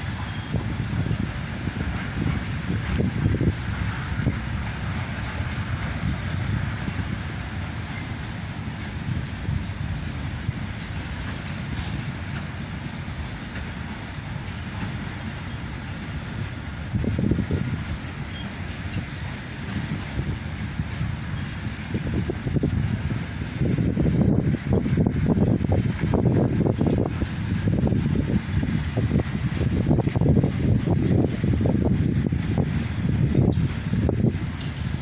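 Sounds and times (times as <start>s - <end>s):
diesel train rumbling past: 0.0s - 35.0s.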